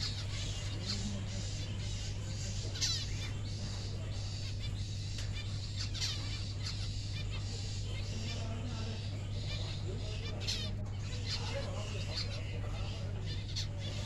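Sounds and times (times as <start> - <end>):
cockatiel chirping: 0.0 - 14.0
steady low hum: 0.0 - 14.0.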